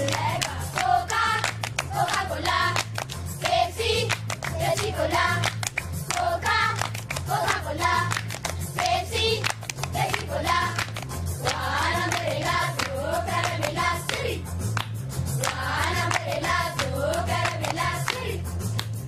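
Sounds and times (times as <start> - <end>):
voices singing: 0.0 - 2.8, 3.4 - 5.5, 6.1 - 8.2, 8.8 - 14.5, 15.4 - 18.5
repeating bass line: 0.0 - 19.0
rhythmic hand clapping: 0.0 - 19.0.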